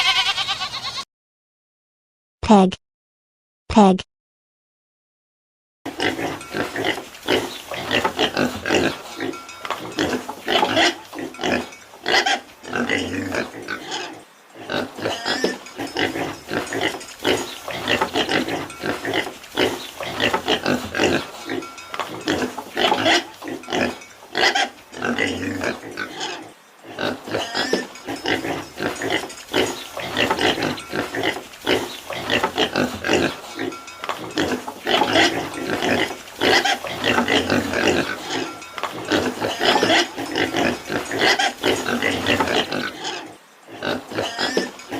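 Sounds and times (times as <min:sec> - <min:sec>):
pigs grunting and oinking: 0:05.9 - 0:44.9.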